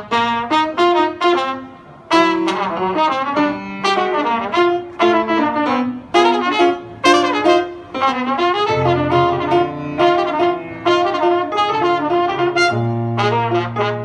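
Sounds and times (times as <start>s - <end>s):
grand piano accompaniment: 0.0s - 14.0s
jazz trumpet melody: 0.0s - 14.0s.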